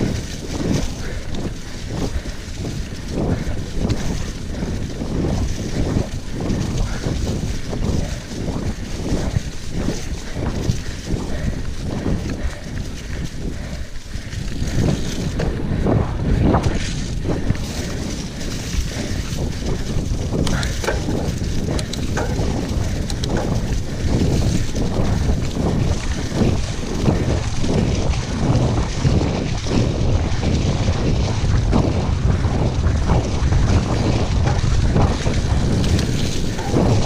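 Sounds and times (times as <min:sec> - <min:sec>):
bike knocking and rattling: 0:00.0 - 0:37.0
bike tyres over leaves and dirt: 0:00.0 - 0:37.0
wind on microphone: 0:00.0 - 0:37.0.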